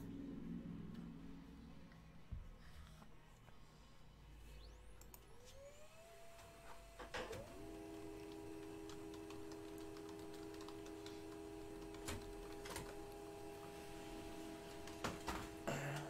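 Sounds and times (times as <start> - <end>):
multi-tone hum: 0.0 - 16.0.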